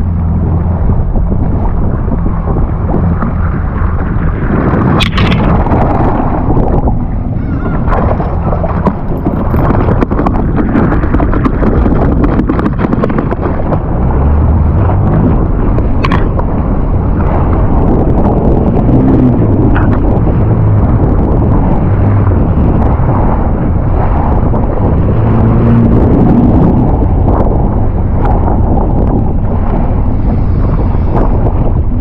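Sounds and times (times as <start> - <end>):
jet ski engine drone: 0.0 - 32.0
water splashing along hull: 0.0 - 32.0
wind buffeting microphone: 0.0 - 32.0.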